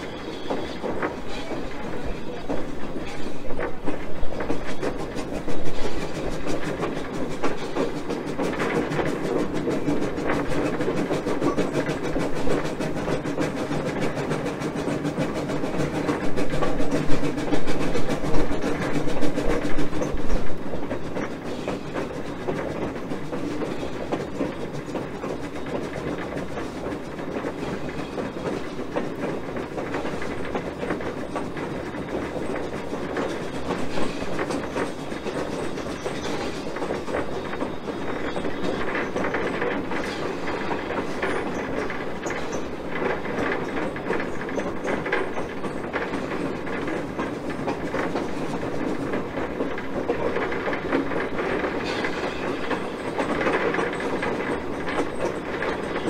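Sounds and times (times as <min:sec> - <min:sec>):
train wheels clickety-clack on rails: 0:00.0 - 0:56.0.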